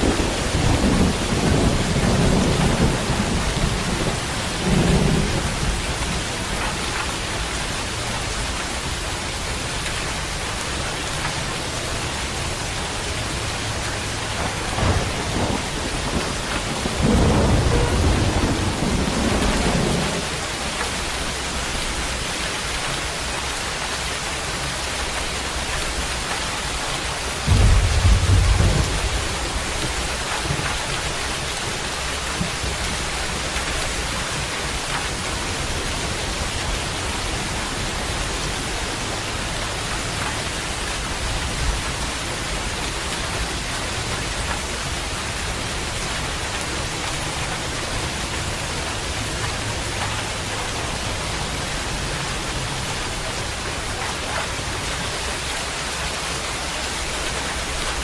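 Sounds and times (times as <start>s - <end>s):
thunder rumbling: 0.0s - 9.0s, 12.0s - 23.2s, 24.4s - 54.8s
steady rain: 0.0s - 58.0s.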